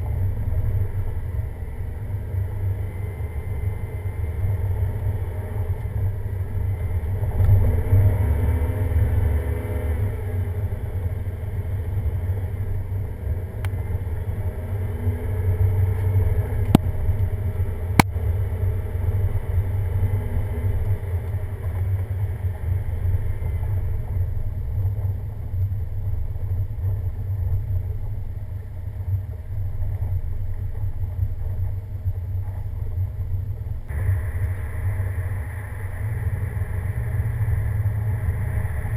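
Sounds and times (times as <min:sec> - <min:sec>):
vehicle engine and tyres rumbling: 0:00.0 - 0:38.9.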